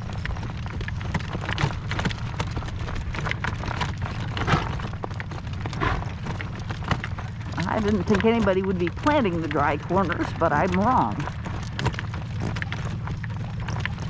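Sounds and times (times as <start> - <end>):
horse hoofbeats clip-clopping: 0.0 - 14.0
wind buffeting microphone: 0.0 - 14.0.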